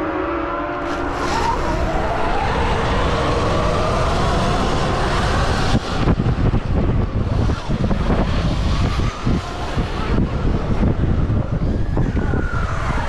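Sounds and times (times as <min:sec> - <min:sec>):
electric motorbike motors whining: 0:00.0 - 0:13.0
low rushing noise: 0:00.0 - 0:13.0.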